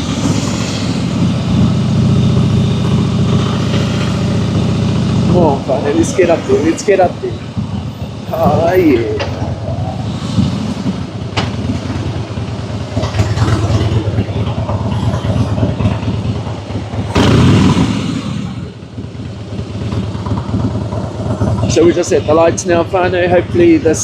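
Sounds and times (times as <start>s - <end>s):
motorcycle engine on road: 0.0s - 24.0s.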